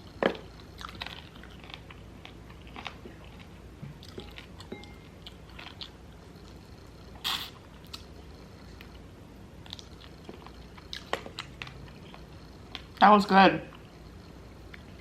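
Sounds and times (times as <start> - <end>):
chewing and biting food: 0.1 - 9.0, 9.6 - 13.0.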